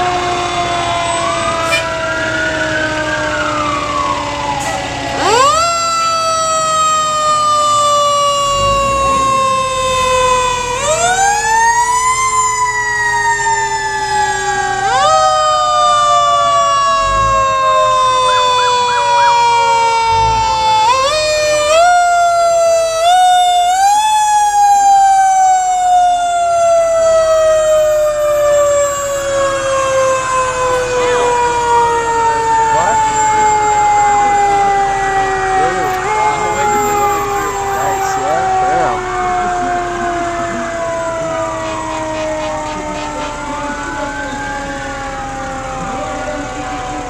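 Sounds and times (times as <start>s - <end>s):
fire truck sirens wailing: 0.0s - 47.0s.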